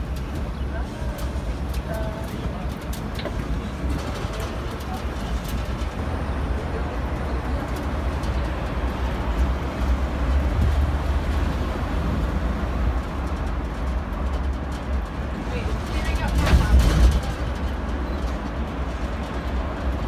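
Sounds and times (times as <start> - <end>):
road train low rumble: 0.0 - 20.0.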